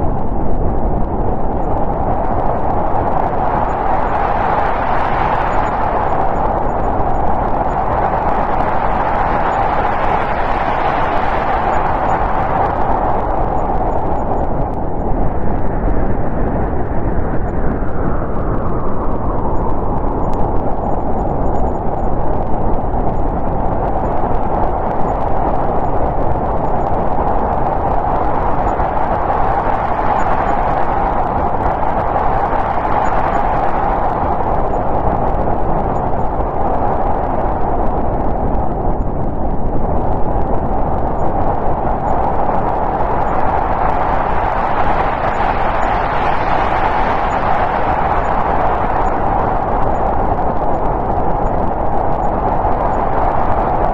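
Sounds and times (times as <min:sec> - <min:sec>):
howling snowstorm wind: 0:00.0 - 0:53.9.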